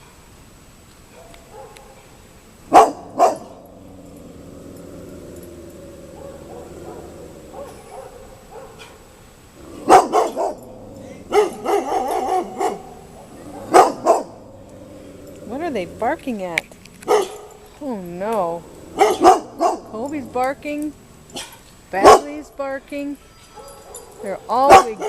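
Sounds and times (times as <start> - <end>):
dogs barking: 1.1 - 2.1, 2.7 - 17.7, 18.6 - 22.4, 23.5 - 25.0.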